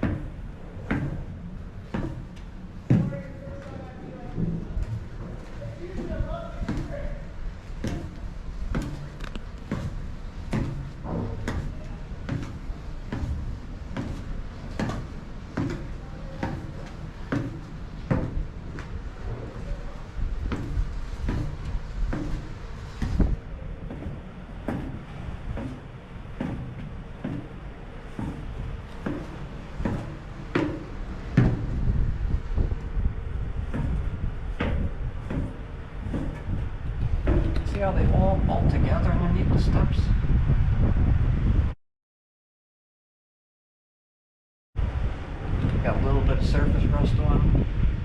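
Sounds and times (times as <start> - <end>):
footsteps on metal stairs: 0.0 - 39.1
low rumble: 0.0 - 41.8.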